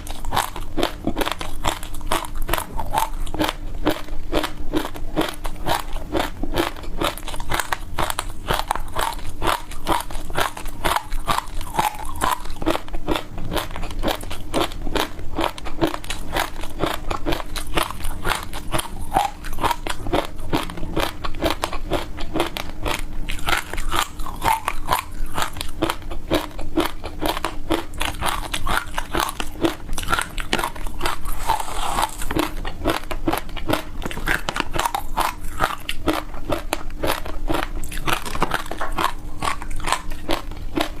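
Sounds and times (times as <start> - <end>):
ice being crunched and chewed: 0.0 - 41.0.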